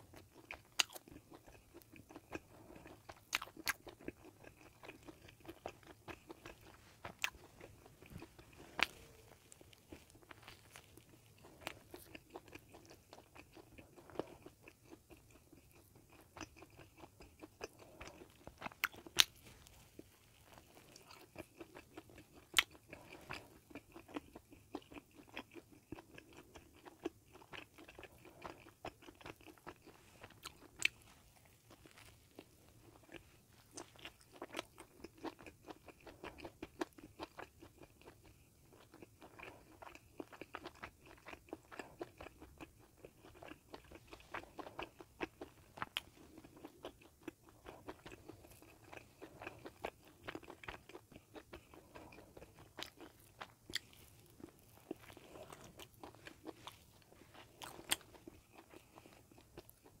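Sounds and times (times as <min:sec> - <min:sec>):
chewing bread: 0:00.0 - 1:00.0.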